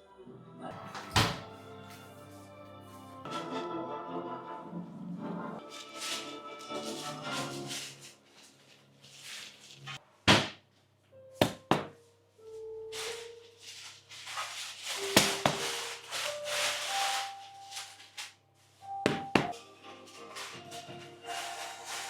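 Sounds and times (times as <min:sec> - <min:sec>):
soft background music: 0:00.0 - 0:10.0, 0:11.0 - 0:22.0.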